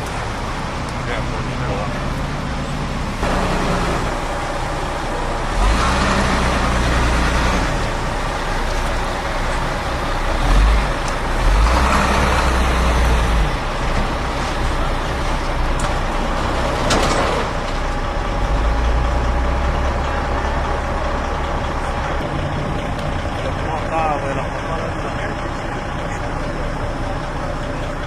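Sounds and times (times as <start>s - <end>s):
heavy vehicle engine running: 0.0s - 28.0s
street noise: 0.0s - 28.0s.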